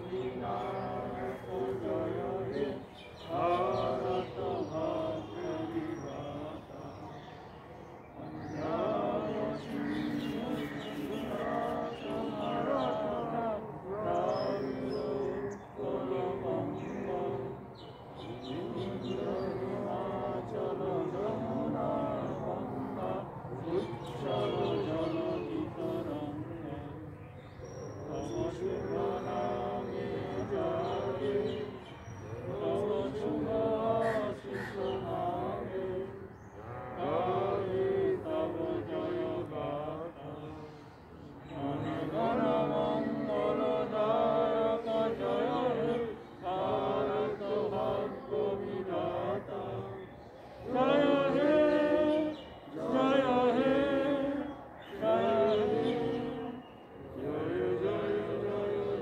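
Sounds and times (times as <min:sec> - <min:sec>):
group singing in unison: 0:00.0 - 0:59.0.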